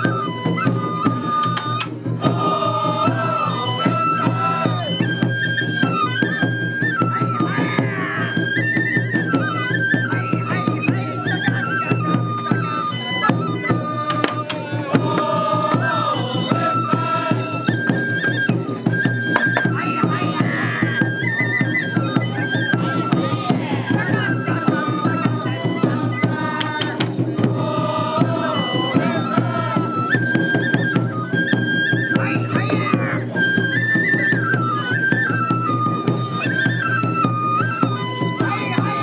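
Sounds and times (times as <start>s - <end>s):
bamboo flute melody: 0.0s - 39.0s
taiko drumming: 0.0s - 39.0s.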